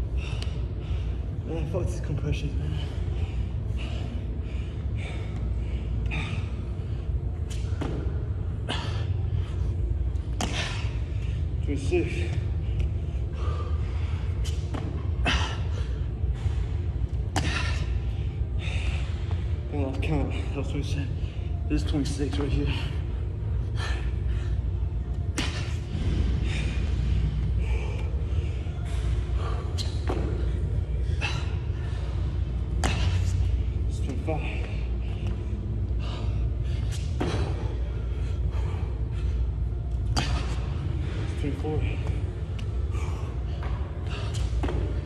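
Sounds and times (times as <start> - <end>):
man breathing hard: 0.0 - 1.6, 2.3 - 21.7, 22.3 - 45.0
steady low rumble: 0.0 - 45.0.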